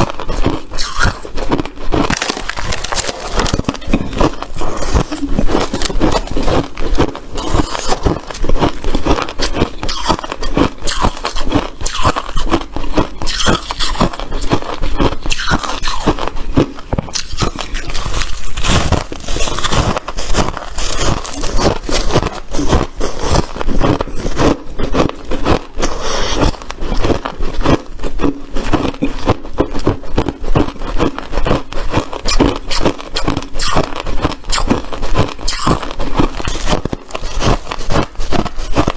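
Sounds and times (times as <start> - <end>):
ice crunching and scraping: 0.0 - 38.9.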